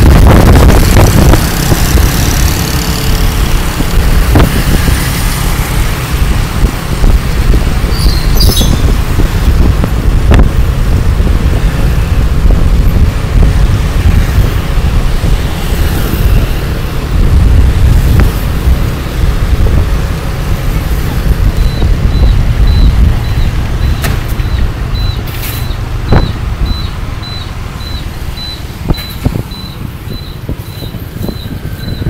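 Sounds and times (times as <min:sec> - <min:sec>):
motorbike engine: 0:00.0 - 0:32.0
wind on microphone: 0:00.0 - 0:32.0.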